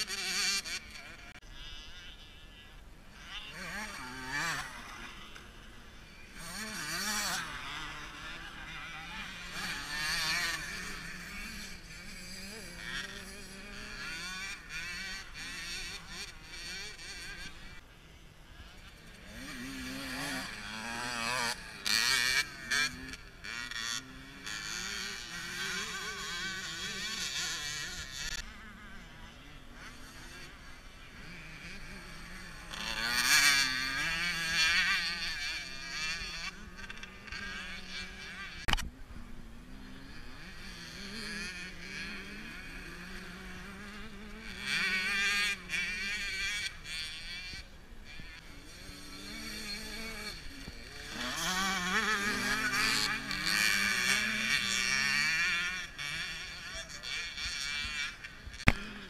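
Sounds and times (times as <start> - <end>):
motocross bikes racing past: 0.0 - 59.0.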